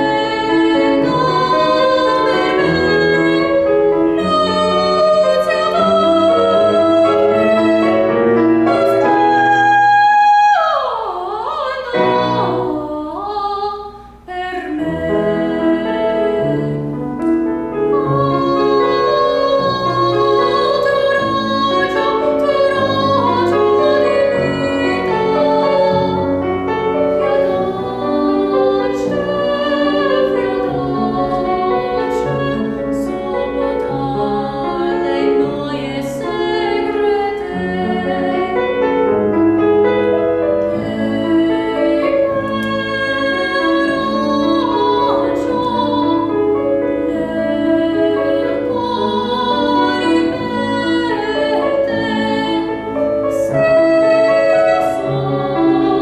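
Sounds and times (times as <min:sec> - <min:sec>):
grand piano accompaniment: 0:00.0 - 0:56.0
woman singing classical song: 0:00.0 - 0:56.0.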